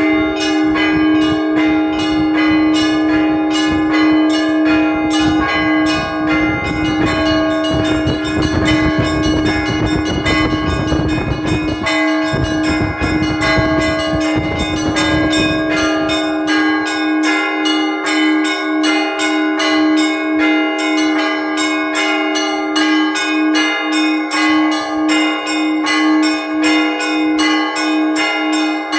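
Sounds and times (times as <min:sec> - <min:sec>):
church bells ringing rhythmically: 0:00.0 - 0:28.9
hum of ringing bell: 0:00.0 - 0:28.9.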